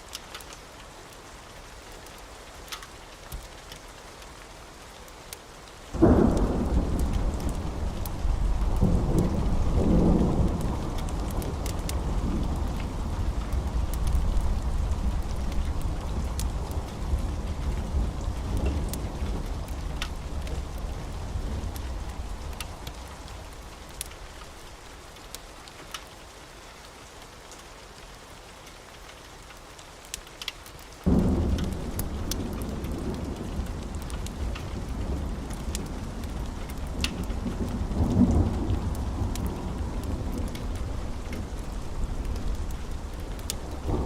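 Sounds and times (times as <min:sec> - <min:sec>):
wood fire crackling: 0:00.0 - 0:26.4, 0:28.6 - 0:44.0.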